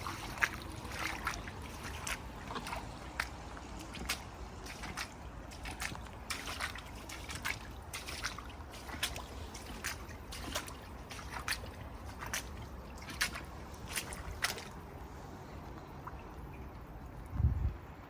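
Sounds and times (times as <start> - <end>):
floodwater splashing and trickling: 0.0 - 18.0.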